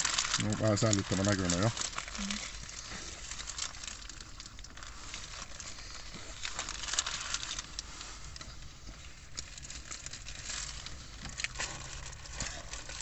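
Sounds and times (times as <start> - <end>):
paper wrappers crinkling: 0.0 - 13.0.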